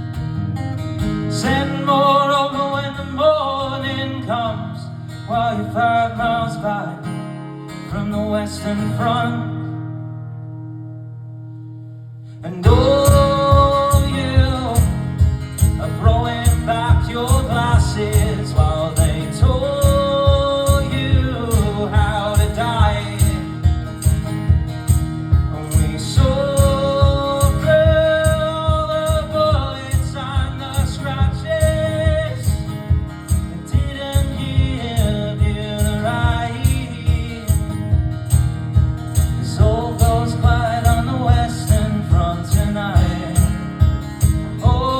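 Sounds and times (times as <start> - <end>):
acoustic folk music: 0.0 - 44.9.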